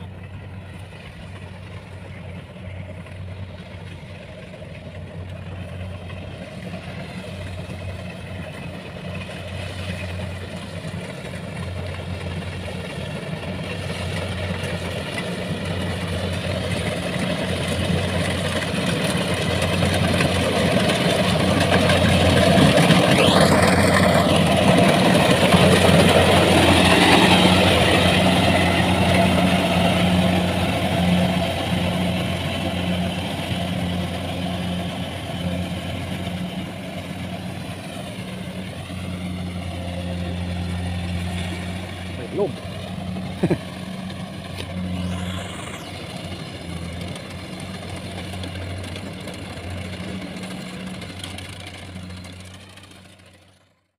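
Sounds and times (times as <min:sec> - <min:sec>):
machine whine: 0:00.0 - 0:53.6
combine harvester engine humming: 0:00.0 - 0:53.9.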